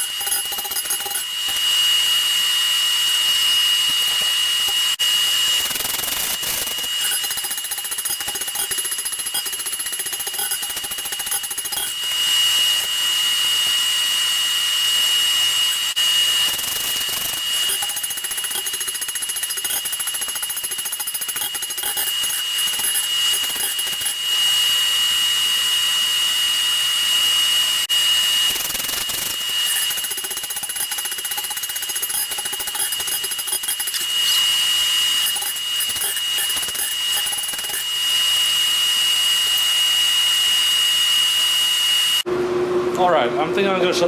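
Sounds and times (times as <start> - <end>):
electric grinder whining: 0.0 - 42.3.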